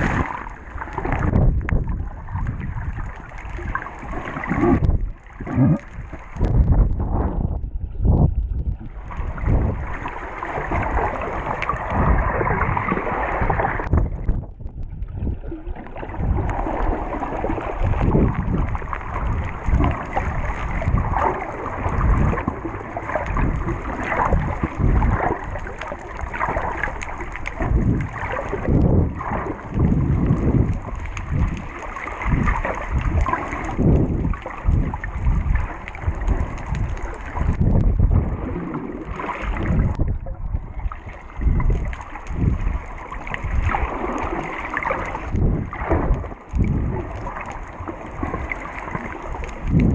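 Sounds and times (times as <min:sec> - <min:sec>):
muffled underwater rushing: 0:00.0 - 0:49.9.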